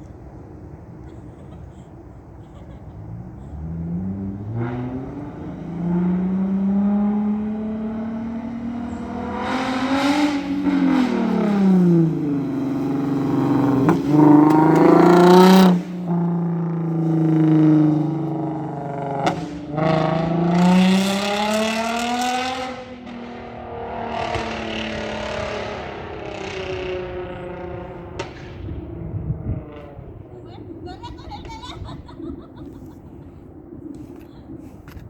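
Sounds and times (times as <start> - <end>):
car engine revving: 2.0 - 34.8.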